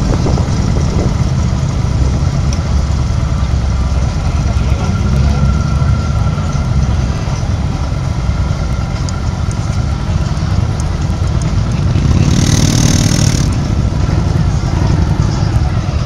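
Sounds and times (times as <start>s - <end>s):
motorcycle and car engines idling: 0.0s - 16.0s.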